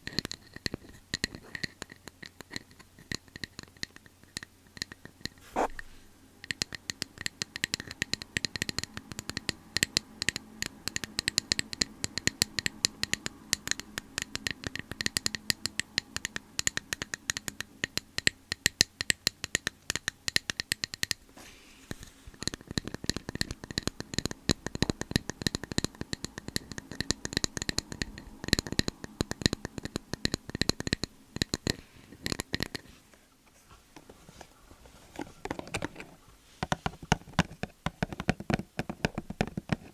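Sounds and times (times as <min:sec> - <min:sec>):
tapping and scratching on object: 0:00.0 - 0:33.0, 0:34.0 - 0:39.9.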